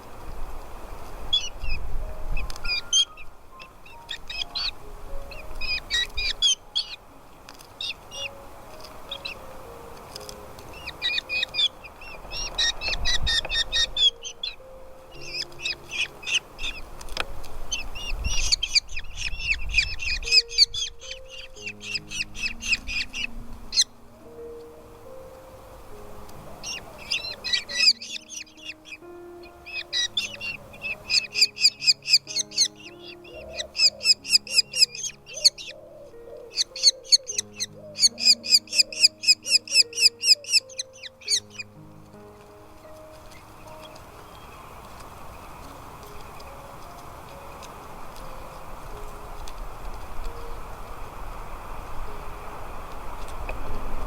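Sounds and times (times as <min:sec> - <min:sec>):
slow background music: 0:00.0 - 0:54.0
chicks chirping: 0:01.2 - 0:51.4.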